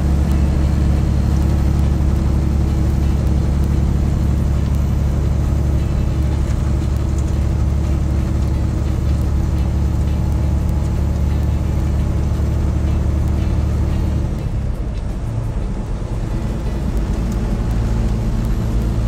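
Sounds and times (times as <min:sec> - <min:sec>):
truck engine and road noise drone: 0:00.0 - 0:19.0.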